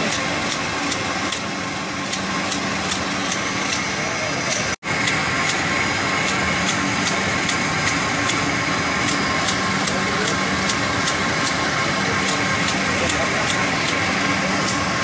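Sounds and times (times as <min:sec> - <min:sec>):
labeling machine humming: 0:00.0 - 0:15.0.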